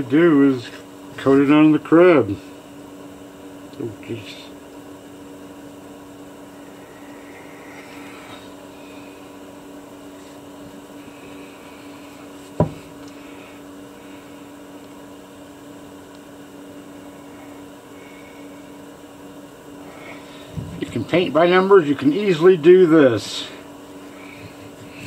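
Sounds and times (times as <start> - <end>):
workshop machine humming: 0.0 - 25.0.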